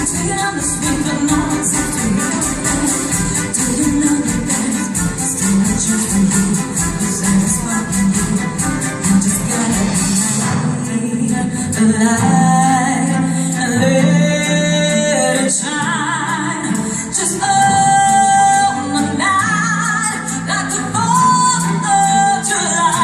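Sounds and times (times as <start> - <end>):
orchestra and band playing pop song: 0.0 - 23.0
woman singing: 0.0 - 23.0.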